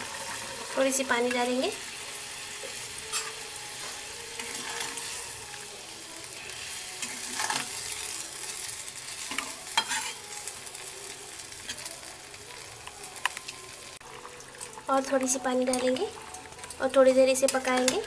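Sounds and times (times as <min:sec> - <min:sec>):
curry sizzling in a pan: 0:00.0 - 0:18.0.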